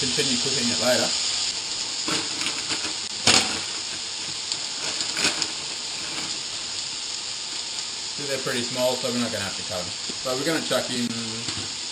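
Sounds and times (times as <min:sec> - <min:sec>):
meat sizzling in a pan: 0:00.0 - 0:11.9
sharp oil crackles: 0:00.0 - 0:11.9.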